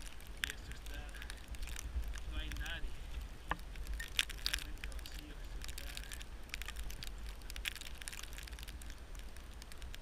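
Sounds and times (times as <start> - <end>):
low wind rumble on microphone: 0.0 - 10.0
snow crunching: 0.0 - 10.0.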